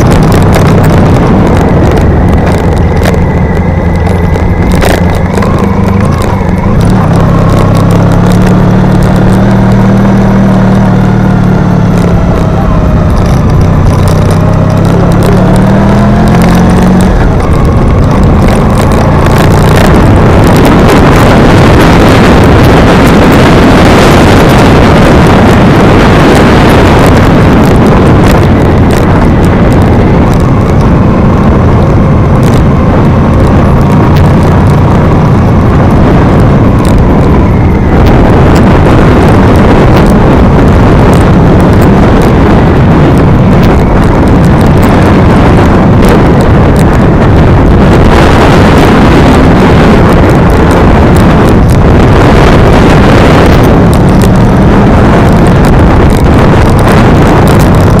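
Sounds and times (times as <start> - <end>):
vehicle engine revving uphill: 0.0 - 58.0
wind buffeting microphone: 0.0 - 58.0.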